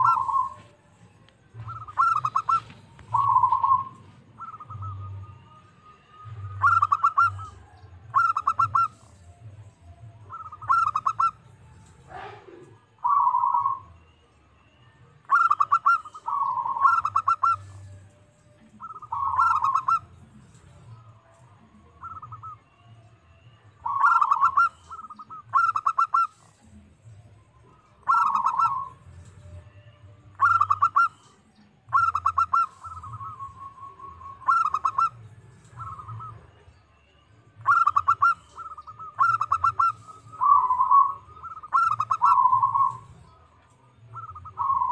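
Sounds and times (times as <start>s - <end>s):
dove cooing: 0.0s - 9.5s, 10.2s - 14.0s, 15.2s - 18.0s, 18.6s - 22.6s, 23.8s - 26.8s, 27.6s - 36.8s, 37.6s - 43.5s, 44.1s - 44.9s.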